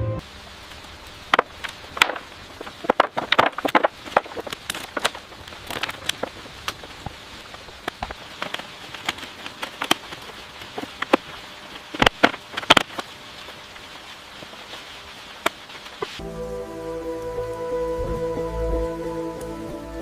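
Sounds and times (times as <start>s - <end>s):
steady hiss: 0.2s - 20.0s.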